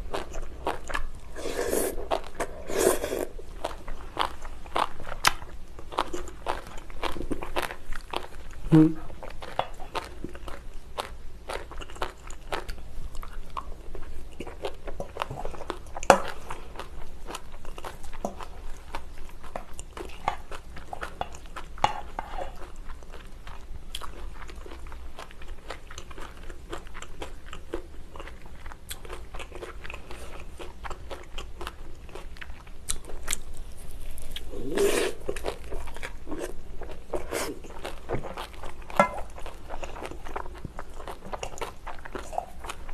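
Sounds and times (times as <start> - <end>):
close-miked chewing: 0.0 - 42.9
soft crunching: 0.0 - 42.9.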